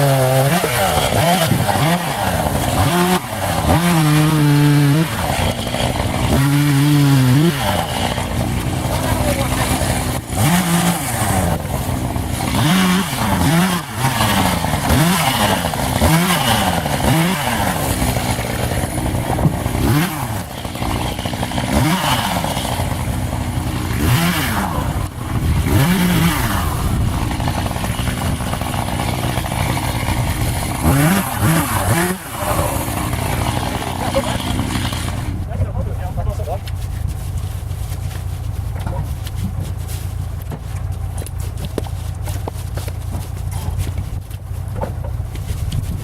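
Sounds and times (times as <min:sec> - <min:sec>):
chainsaw revving: 0:00.0 - 0:46.0.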